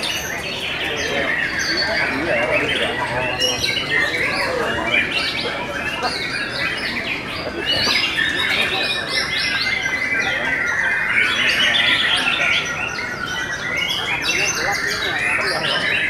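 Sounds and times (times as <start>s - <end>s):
birds singing: 0.0s - 16.0s.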